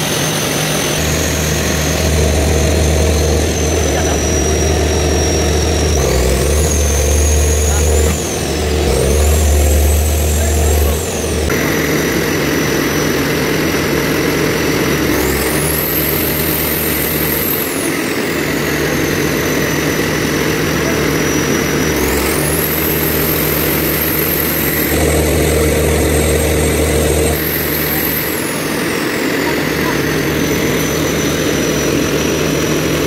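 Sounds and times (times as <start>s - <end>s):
diesel generator engine running: 0.0s - 33.0s
high whine: 0.0s - 33.0s.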